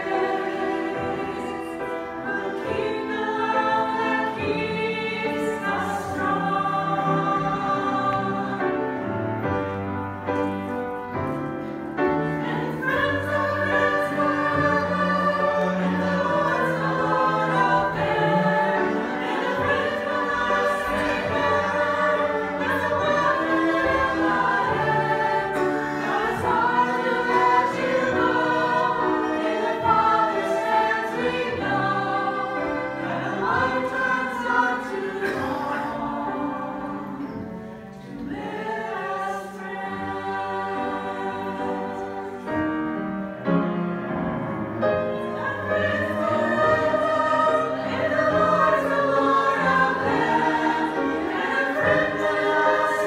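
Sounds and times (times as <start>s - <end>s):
bowed cello: 0.0s - 53.0s
group singing in harmony: 0.0s - 53.0s.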